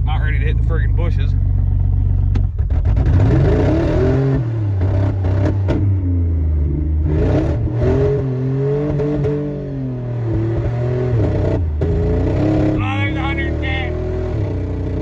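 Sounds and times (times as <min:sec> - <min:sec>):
pickup truck engine revving: 0:00.0 - 0:15.0.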